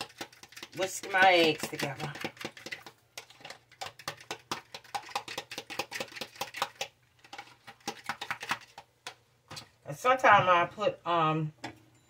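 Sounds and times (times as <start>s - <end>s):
eggs beaten in plastic container: 0.0s - 9.8s.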